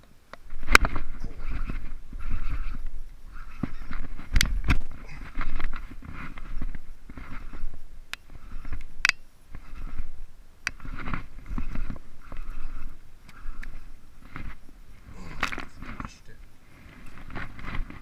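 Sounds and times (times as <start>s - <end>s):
rustling handling noise: 0.4s - 18.0s.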